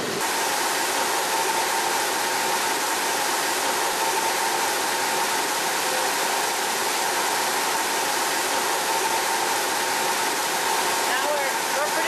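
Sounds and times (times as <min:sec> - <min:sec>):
spraying water hiss: 0:00.0 - 0:12.0
turbine whine: 0:00.0 - 0:12.0.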